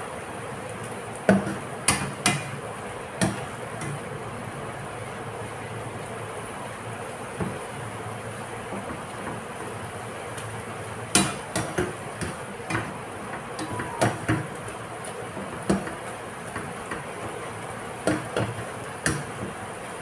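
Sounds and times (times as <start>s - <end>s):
leaves stir-frying in oil: 0.0s - 20.0s.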